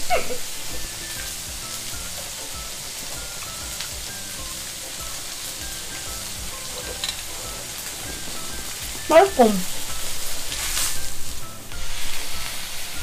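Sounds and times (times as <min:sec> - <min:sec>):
steak sizzling on a grill pan: 0:00.0 - 0:13.0.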